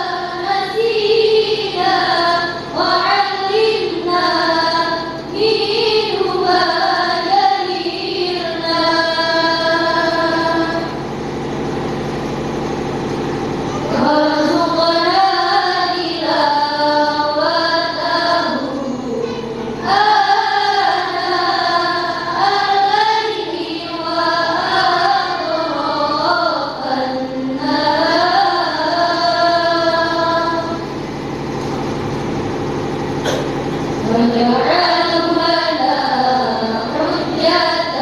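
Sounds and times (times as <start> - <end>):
girls singing together: 0.0 - 11.0, 13.8 - 31.0, 33.3 - 38.0.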